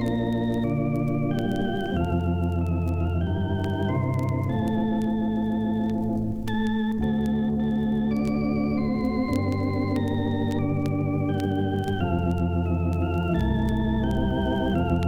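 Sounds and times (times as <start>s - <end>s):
slow organ music: 0.0s - 15.0s.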